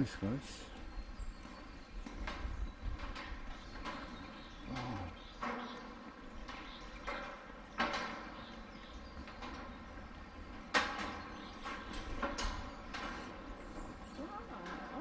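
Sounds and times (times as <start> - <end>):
footsteps on a walkway: 0.0 - 15.0.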